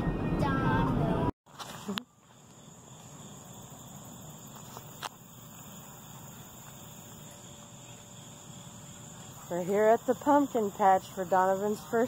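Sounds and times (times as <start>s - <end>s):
crickets chirring: 1.5s - 12.0s.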